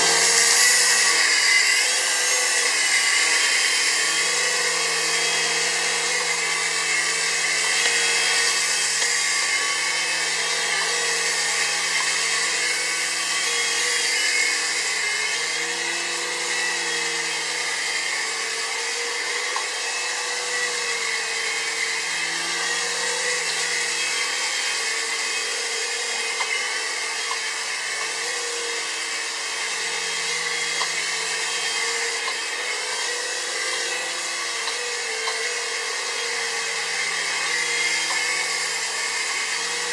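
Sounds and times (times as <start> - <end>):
toy helicopter rotors whirring: 0.0 - 39.9.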